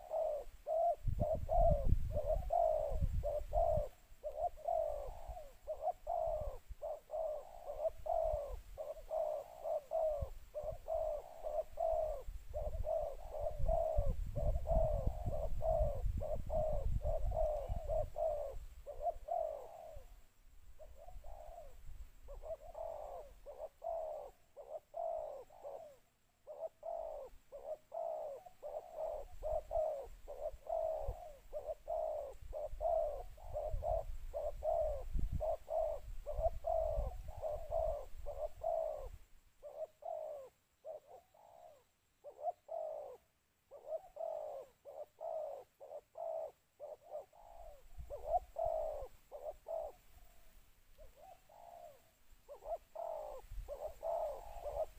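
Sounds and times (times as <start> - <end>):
doves cooing: 0.0 - 54.9.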